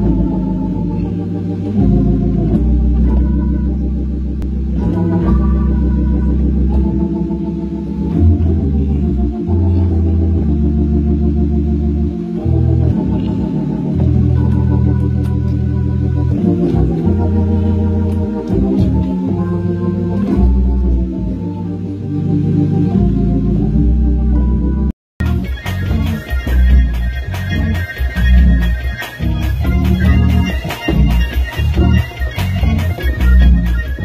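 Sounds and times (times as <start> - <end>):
organ playing a groove: 0.0 - 34.0.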